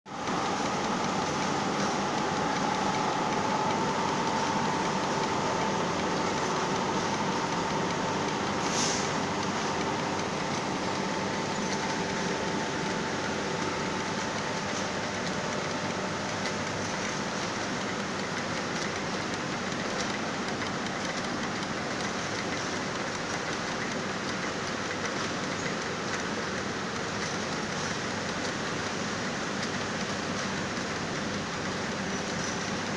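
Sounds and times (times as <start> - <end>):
yarn winding machine whirring: 0.1 - 32.9.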